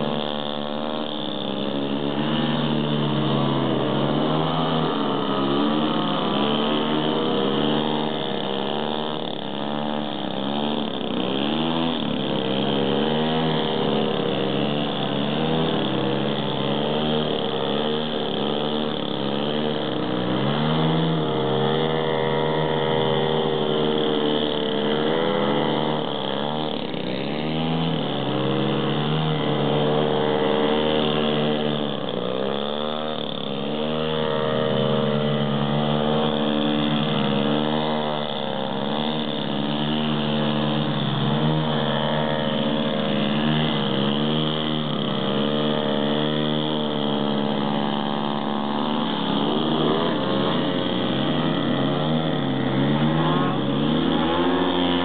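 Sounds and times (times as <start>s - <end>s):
model airplane engines: 0.0s - 55.0s.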